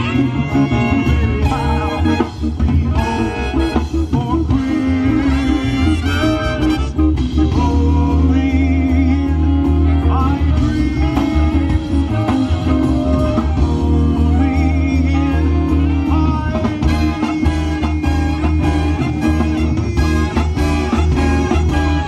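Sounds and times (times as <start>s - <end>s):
lead singer singing: 0.0s - 22.0s
swing band playing: 0.0s - 22.0s.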